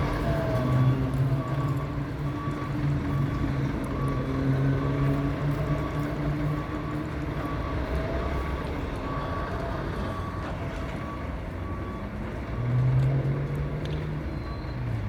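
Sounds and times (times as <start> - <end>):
reversing alarm beeping: 0.0 - 13.0
fire engine running: 0.0 - 15.0.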